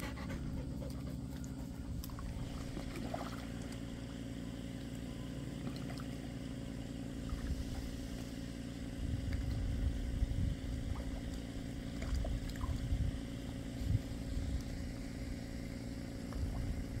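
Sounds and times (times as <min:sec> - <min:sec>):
low rumbling: 0:00.0 - 0:17.0
motor humming: 0:00.0 - 0:17.0.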